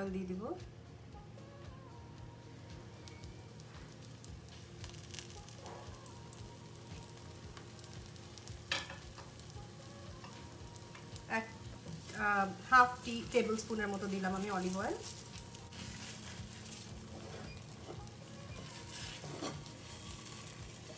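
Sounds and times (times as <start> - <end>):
oil sizzling in a pan: 2.5 - 20.9.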